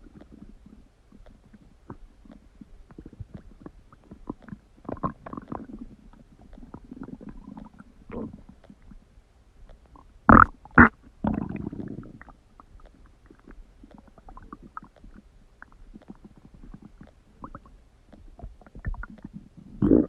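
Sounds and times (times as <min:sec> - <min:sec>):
stomach gurgling: 0:00.0 - 0:09.1, 0:09.7 - 0:20.0.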